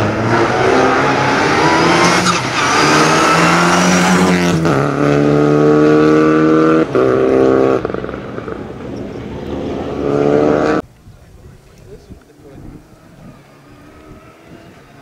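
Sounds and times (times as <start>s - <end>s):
rally car engine at full throttle: 0.0s - 10.8s, 12.6s - 15.0s.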